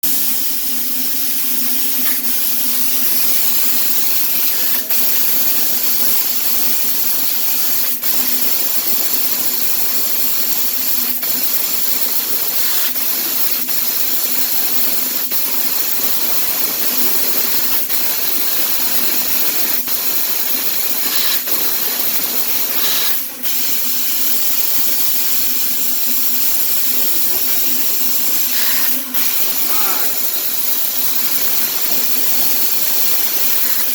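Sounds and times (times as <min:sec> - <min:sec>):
laser cutting machine hiss: 0:00.0 - 0:33.9.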